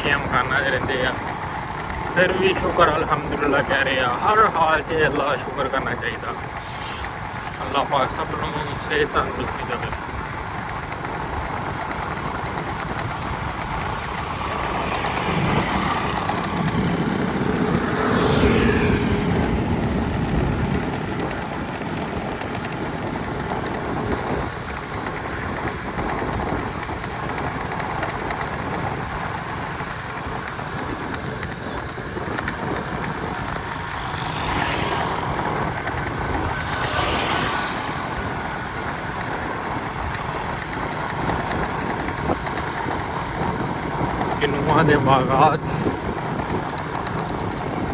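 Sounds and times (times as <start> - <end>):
road noise in moving vehicle: 0.0 - 47.9
vehicles passing close by: 0.0 - 47.9.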